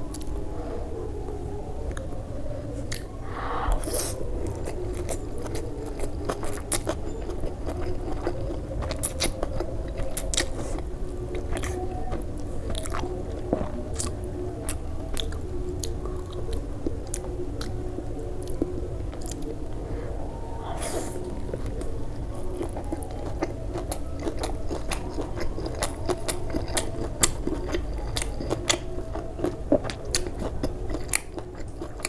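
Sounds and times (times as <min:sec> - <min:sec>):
crunchy chewing: 0:00.0 - 0:00.4, 0:01.9 - 0:19.8, 0:20.6 - 0:32.0
steady low hum: 0:00.0 - 0:32.0.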